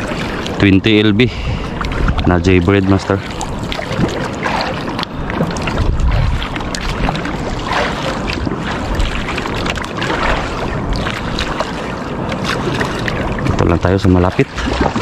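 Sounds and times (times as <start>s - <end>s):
water splashing against boat hull: 0.0s - 15.0s
wind buffeting microphone: 0.0s - 15.0s.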